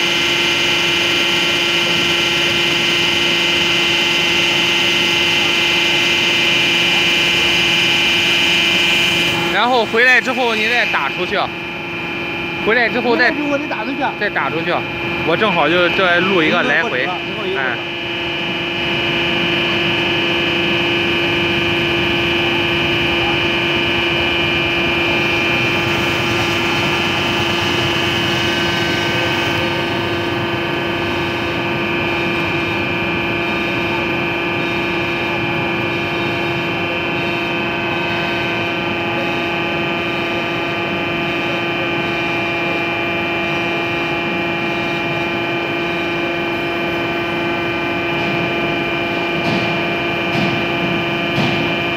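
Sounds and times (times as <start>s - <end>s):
hydraulic pump humming and whining: 0.0s - 51.9s.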